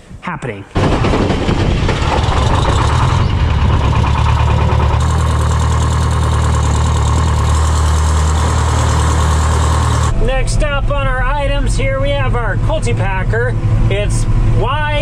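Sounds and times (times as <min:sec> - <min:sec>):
old tractor engine running: 0:00.8 - 0:15.0.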